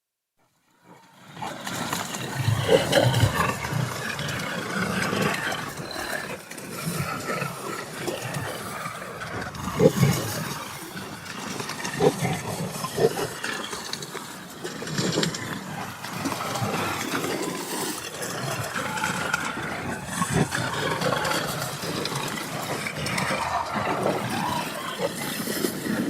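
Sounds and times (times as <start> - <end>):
creature growling: 0.8 - 26.0
raspy whispering: 1.4 - 26.0.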